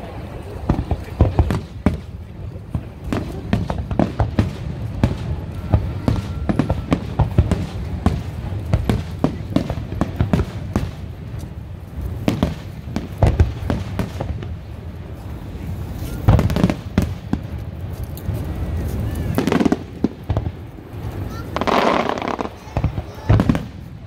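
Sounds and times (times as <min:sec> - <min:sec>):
fireworks bursting: 0:00.0 - 0:24.0
low rumble of explosions: 0:00.0 - 0:24.0.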